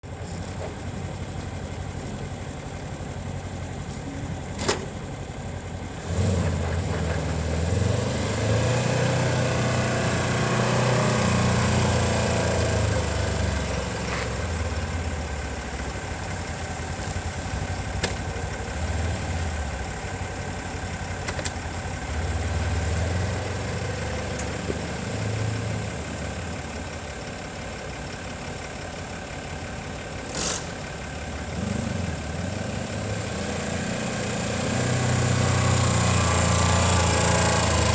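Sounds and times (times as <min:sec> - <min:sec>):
utility vehicle engine running: 0:00.0 - 0:37.9.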